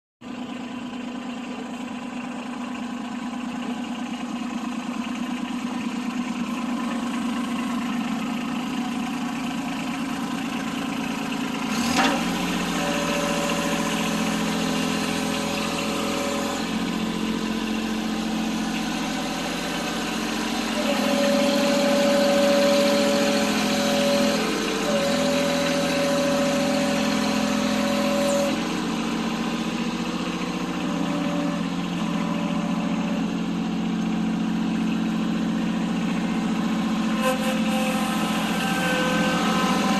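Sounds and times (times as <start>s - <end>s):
tractor diesel engine running: 0.2s - 39.9s.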